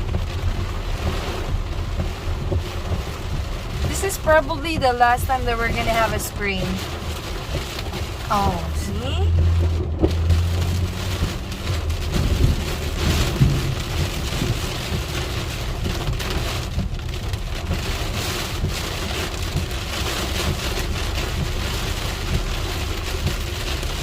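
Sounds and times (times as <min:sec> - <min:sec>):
heavy rain drumming on car roof: 0:00.0 - 0:24.0.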